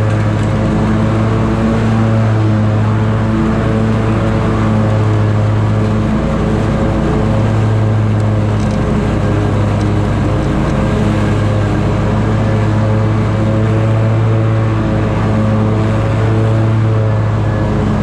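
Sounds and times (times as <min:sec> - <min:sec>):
mower cutting grass: 0:00.0 - 0:18.0.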